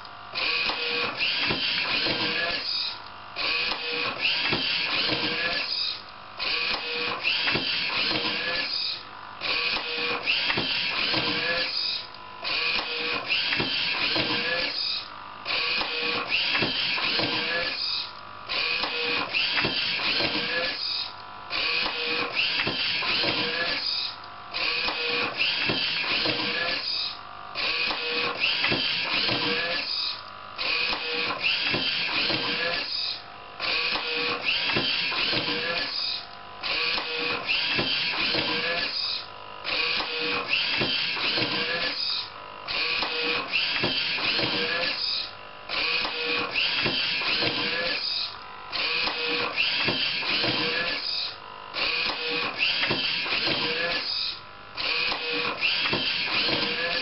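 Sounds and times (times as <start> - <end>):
machine whirring: 0.0 - 57.0.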